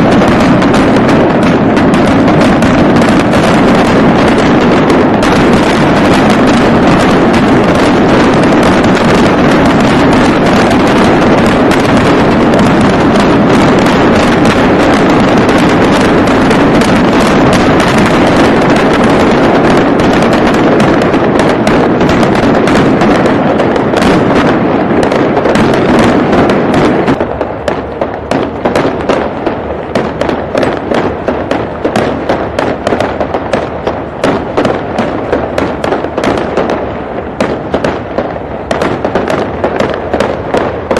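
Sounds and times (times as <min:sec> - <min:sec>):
fireworks popping and crackling: 0:00.0 - 0:40.9.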